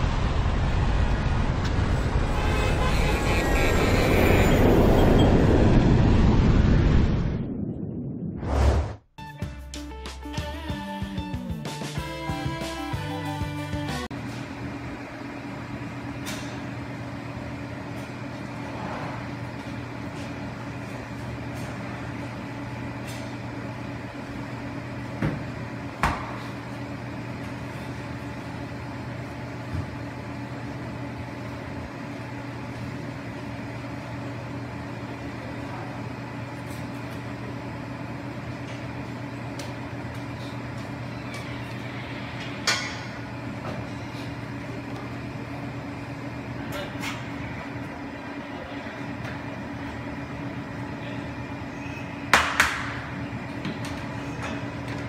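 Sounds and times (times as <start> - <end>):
low machine hum: 0.0 - 8.4, 12.0 - 55.0.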